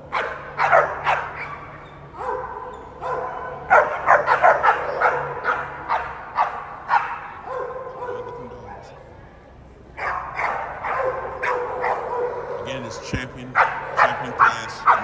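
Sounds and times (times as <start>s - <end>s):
dogs barking: 0.0s - 9.1s, 10.0s - 15.0s.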